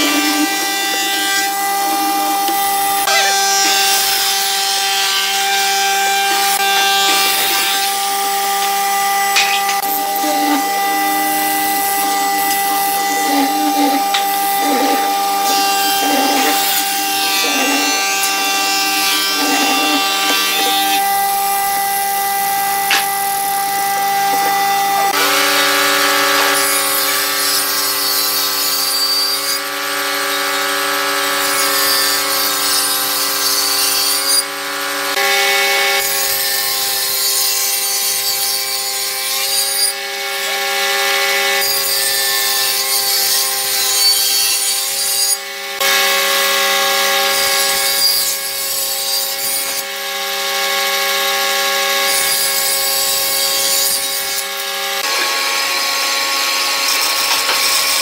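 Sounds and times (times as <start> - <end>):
bandsaw running: 0.0 - 58.0
saw cutting through wood: 0.0 - 58.0
table saw whining: 0.0 - 58.0.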